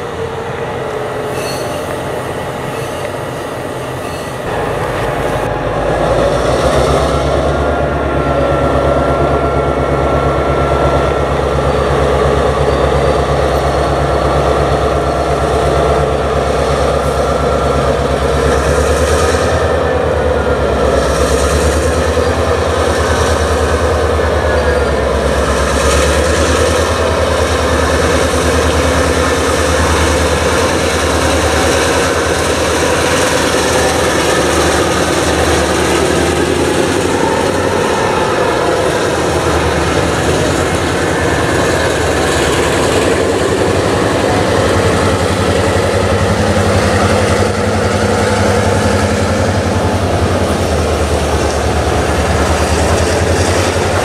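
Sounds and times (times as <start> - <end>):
diesel locomotive engine drone: 0.0 - 54.0
tank cars rumbling on rails: 0.0 - 54.0.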